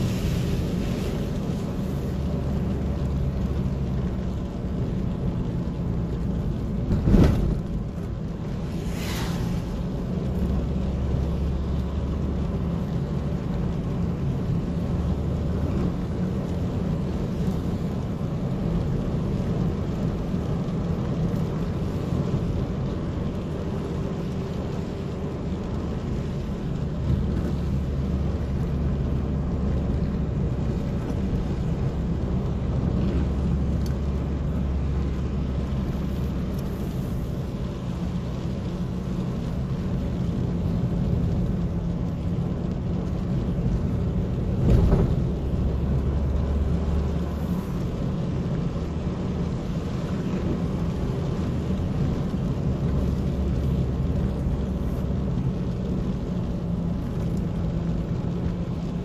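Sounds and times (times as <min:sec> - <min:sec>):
car engine drone: 0:00.0 - 0:59.0
tyres on wet pavement: 0:00.0 - 0:59.0.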